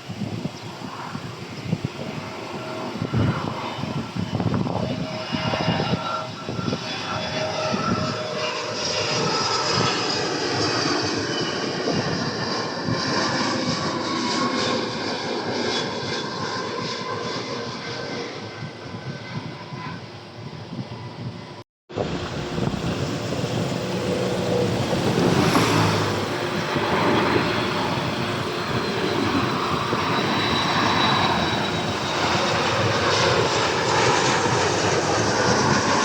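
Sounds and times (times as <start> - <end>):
high whining engine tones: 0.0 - 18.7, 19.8 - 36.0
jet engines roaring: 0.0 - 36.0.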